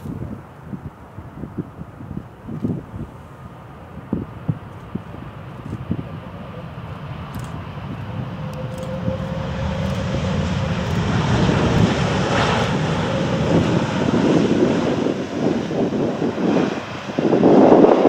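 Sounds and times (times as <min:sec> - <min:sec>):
jet engines of landing airliner: 0:00.0 - 0:18.0.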